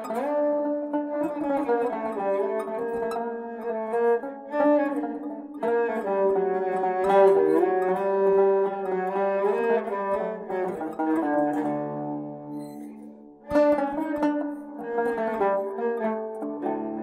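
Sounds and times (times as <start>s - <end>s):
bowed spike fiddle: 0.0s - 17.0s
plucked long-necked lute: 0.0s - 17.0s.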